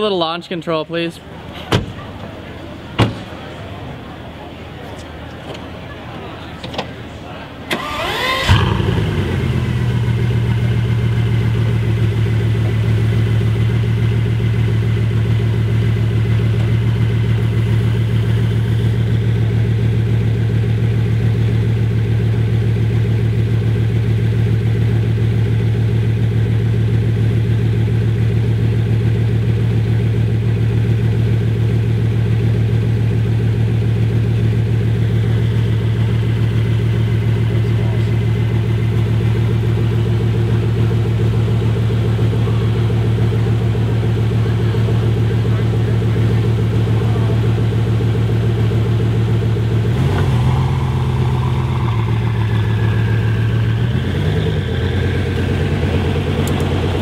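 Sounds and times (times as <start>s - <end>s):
car engine idling: 0.0s - 57.0s
car engine revving: 7.7s - 57.0s.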